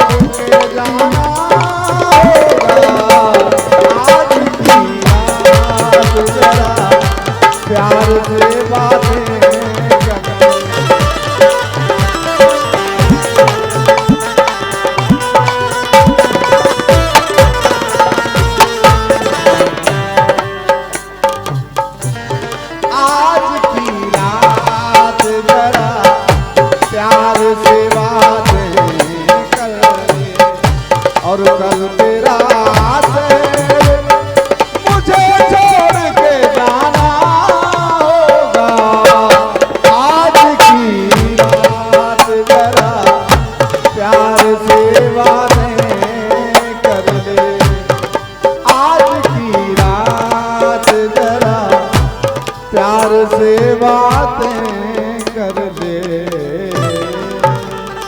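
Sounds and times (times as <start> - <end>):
hand drum beats: 0.0 - 58.0
melodic folk instrument: 0.0 - 58.0.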